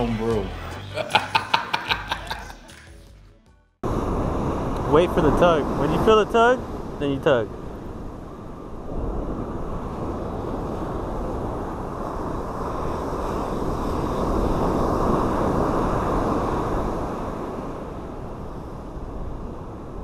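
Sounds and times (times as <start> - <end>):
ocean surf breaking: 3.8 - 20.0
wind on microphone: 3.8 - 20.0.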